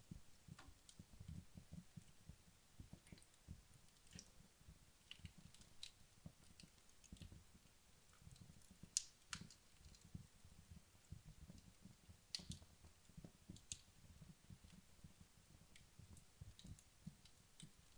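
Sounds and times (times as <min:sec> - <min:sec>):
logs crackling in fireplace: 0:00.0 - 0:17.9.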